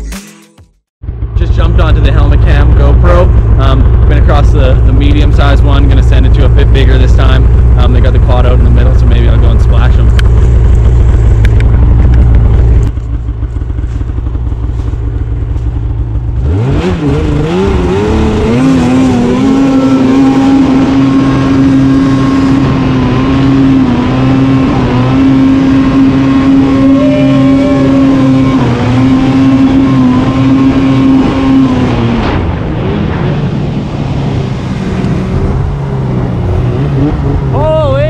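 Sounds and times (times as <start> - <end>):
snowmobile engine revving: 1.3 - 15.1, 16.1 - 38.0.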